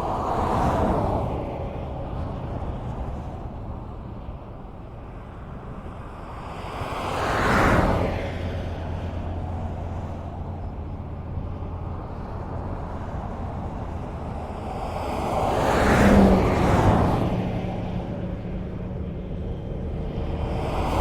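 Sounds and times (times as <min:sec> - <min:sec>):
cars passing at speed: 0:00.0 - 0:21.0
low engine hum: 0:00.0 - 0:21.0.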